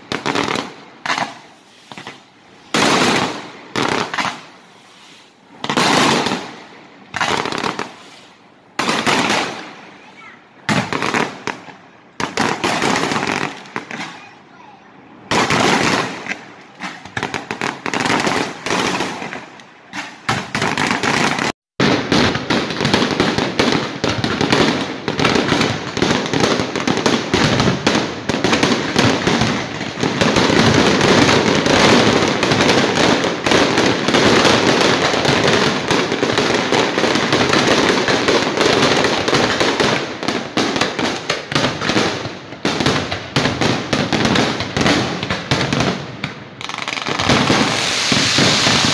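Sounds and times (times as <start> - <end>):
fireworks booming and crackling: 0.0 - 48.9.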